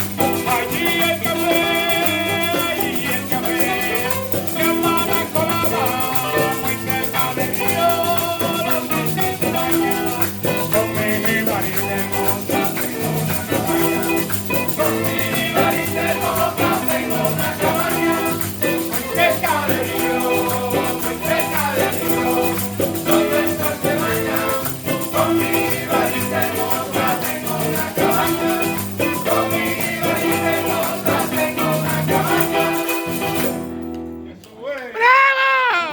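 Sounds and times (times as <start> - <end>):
person singing: 0.0 - 33.7, 34.9 - 35.9
latin band playing: 0.0 - 34.2
maracas rattling: 0.0 - 34.2.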